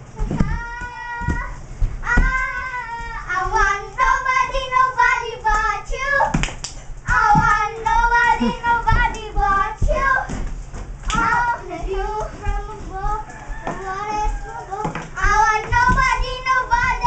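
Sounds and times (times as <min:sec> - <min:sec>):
child singing in high voice: 0:00.2 - 0:06.4, 0:07.1 - 0:10.4, 0:11.1 - 0:17.0.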